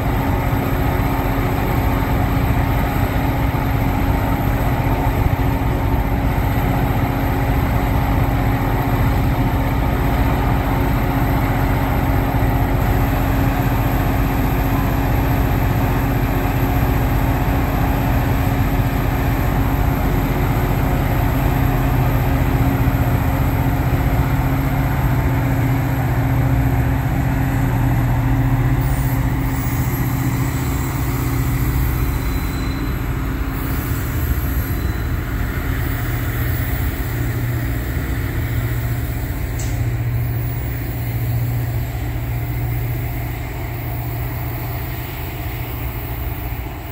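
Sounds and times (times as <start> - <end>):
diesel locomotive droning: 0.0 - 46.9.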